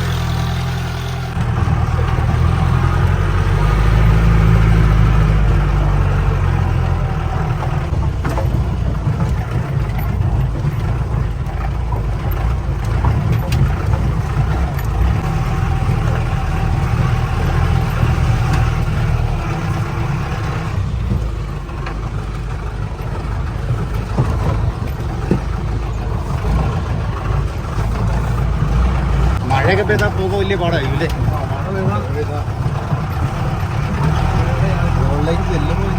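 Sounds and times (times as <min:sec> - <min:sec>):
knocks and rattles: 0:00.0 - 0:35.9
off-road vehicle engine rumbling: 0:00.0 - 0:35.9.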